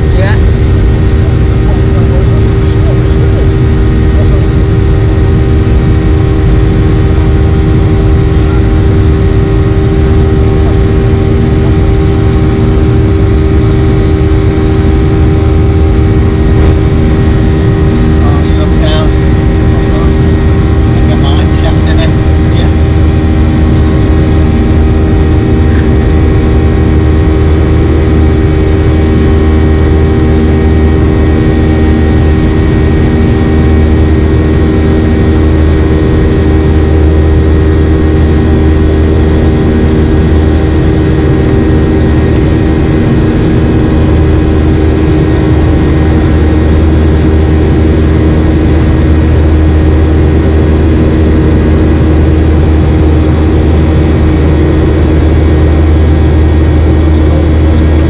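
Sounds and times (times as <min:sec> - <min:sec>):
constant hum tones: 0:00.0 - 0:58.0
jet engine drone: 0:00.0 - 0:58.0.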